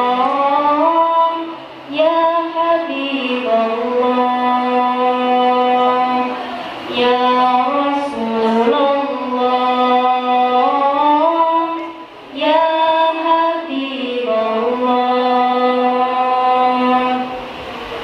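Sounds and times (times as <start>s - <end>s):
girl singing a chant: 0.0s - 17.4s.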